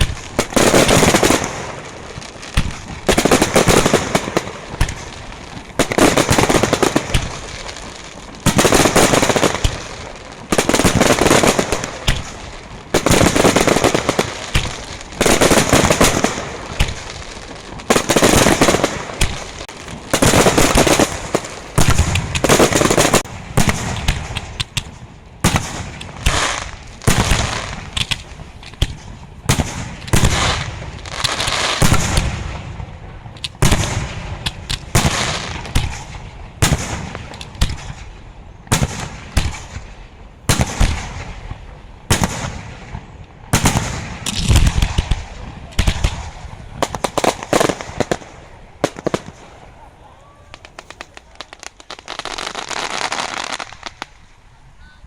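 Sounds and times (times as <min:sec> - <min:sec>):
fireworks crackling bangs: 0:00.0 - 0:54.6.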